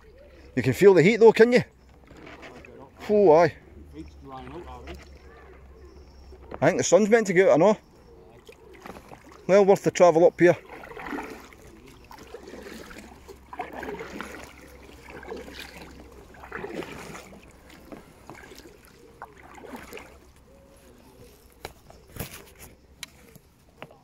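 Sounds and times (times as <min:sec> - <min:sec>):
paddle splashing in water: 0:01.4 - 0:03.4, 0:04.2 - 0:07.2, 0:08.2 - 0:23.5.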